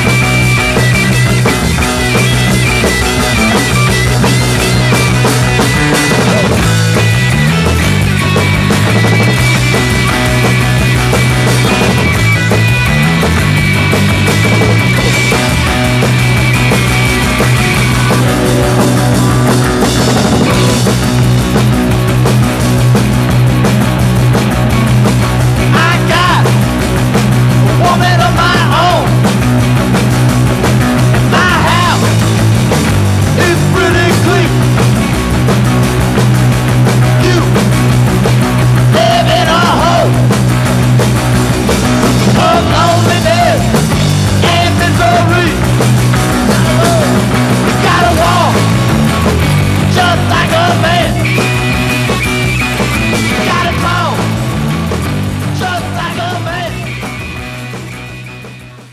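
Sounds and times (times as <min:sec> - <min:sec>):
loud rock music: 0:00.0 - 0:58.9.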